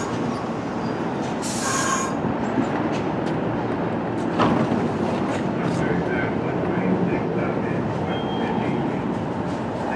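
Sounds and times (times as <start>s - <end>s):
subway train rumble: 0.0s - 9.9s.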